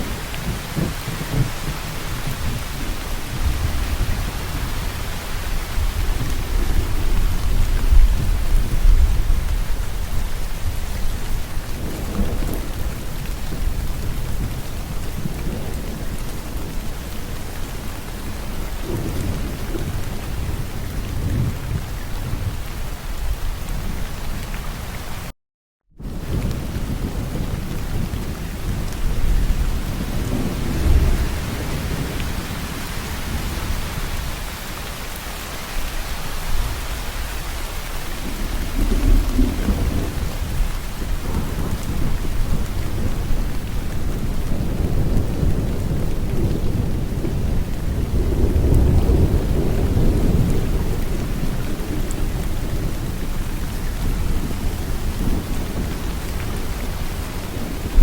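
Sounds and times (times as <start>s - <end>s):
thunder rolling: 0.0s - 22.6s, 26.0s - 34.8s, 36.5s - 58.0s
heavy rain falling: 0.0s - 25.3s, 26.0s - 58.0s.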